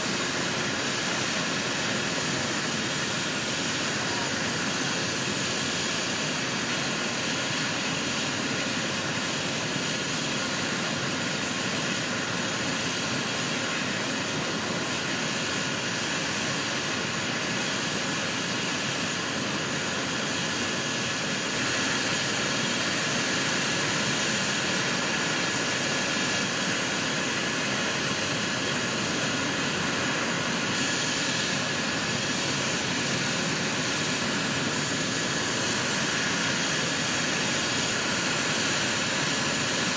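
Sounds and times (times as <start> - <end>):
helicopter turbine engines running: 0.0 - 39.9.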